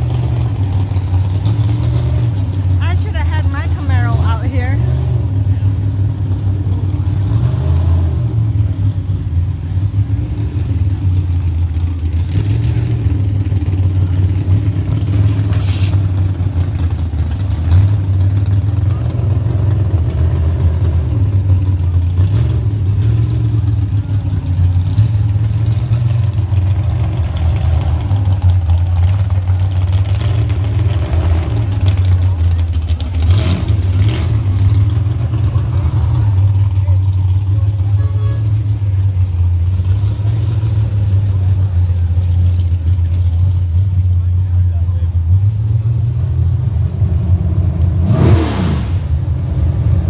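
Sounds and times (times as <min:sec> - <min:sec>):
car engine running: 0:00.0 - 0:50.0.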